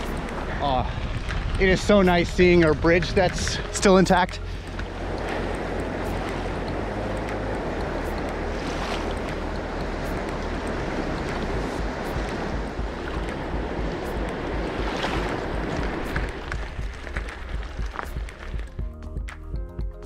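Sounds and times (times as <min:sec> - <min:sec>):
fast-flowing river rushing: 0:00.0 - 0:18.8
wind rumbling on microphone: 0:00.0 - 0:19.7.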